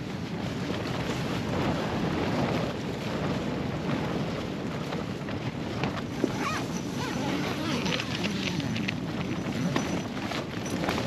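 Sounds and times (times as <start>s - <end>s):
gusty wind on microphone: 0.0s - 11.0s.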